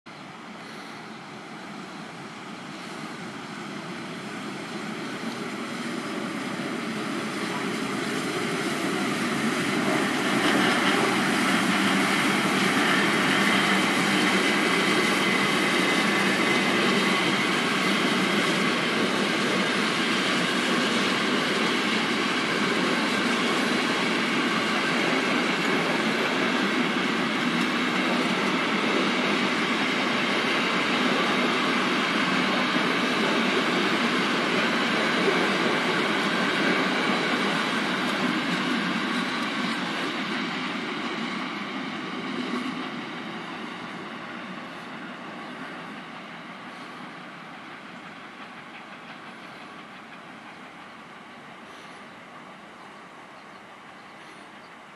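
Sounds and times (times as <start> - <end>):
steam locomotive passing: 0.1 - 54.9
train coaches on rails: 0.1 - 54.9.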